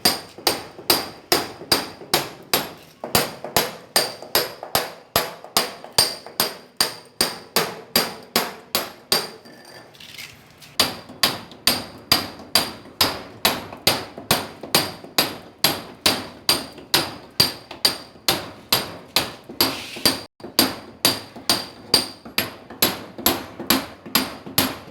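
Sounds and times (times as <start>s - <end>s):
sledgehammer beating steel chisel: 0.0s - 9.5s, 10.8s - 24.9s.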